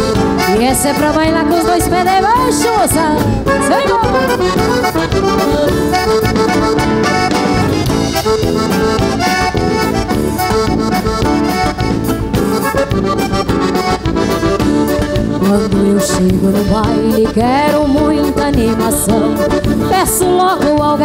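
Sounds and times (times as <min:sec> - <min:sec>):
steady drum beat: 0:00.0 - 0:17.2
accordion: 0:00.0 - 0:21.0
acoustic guitar: 0:00.0 - 0:21.0
bass: 0:00.0 - 0:21.0.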